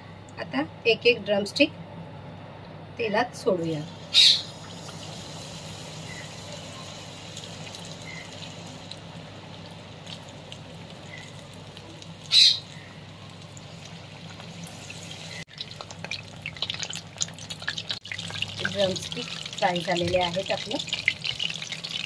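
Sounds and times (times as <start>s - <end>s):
chicken deep-frying in oil: 3.6s - 22.0s.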